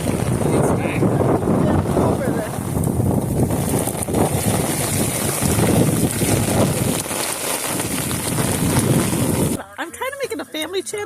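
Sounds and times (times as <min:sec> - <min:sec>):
wind gusting against microphone: 0:00.0 - 0:09.6.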